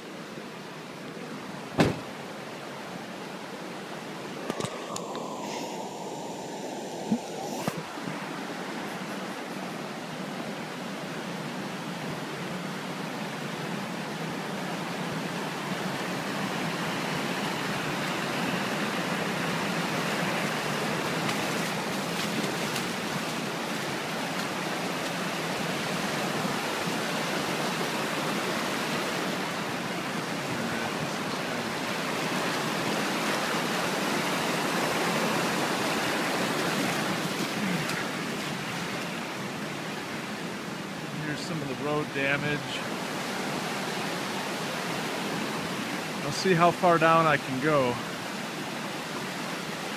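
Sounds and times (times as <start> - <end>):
floodwater rushing across road: 0.0 - 49.9.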